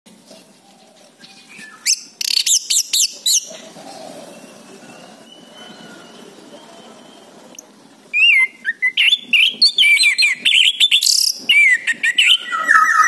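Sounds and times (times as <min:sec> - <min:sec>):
bird singing whistled notes: 0:01.2 - 0:03.5, 0:04.2 - 0:13.0.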